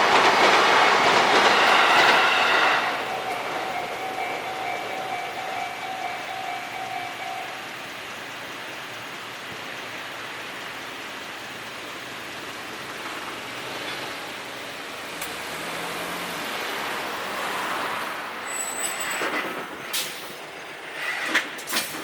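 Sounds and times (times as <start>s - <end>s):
electric train rushing: 0.0s - 10.8s, 12.2s - 22.0s.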